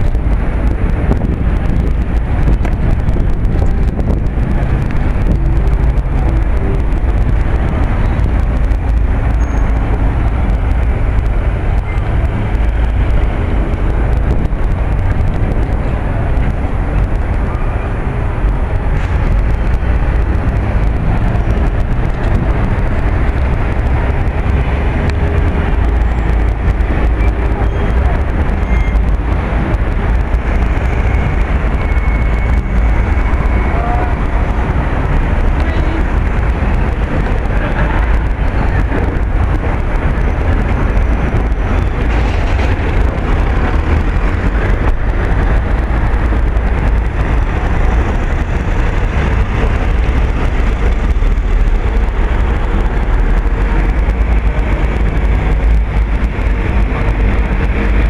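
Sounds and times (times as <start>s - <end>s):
cars passing: 0.0s - 58.0s
city street traffic rumble: 0.0s - 58.0s.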